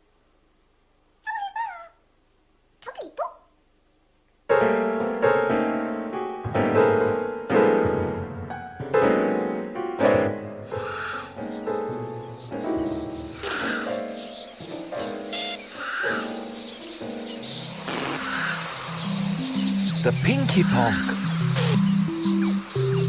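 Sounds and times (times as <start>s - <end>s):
piano chords: 4.5s - 23.0s.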